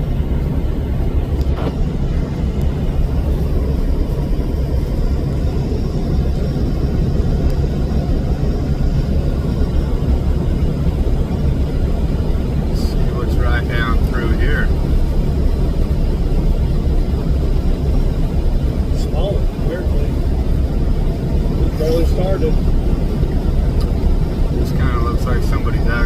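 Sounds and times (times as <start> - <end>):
car engine rumble: 0.0 - 26.0
tyres on road: 0.0 - 26.0
wind noise: 0.0 - 26.0.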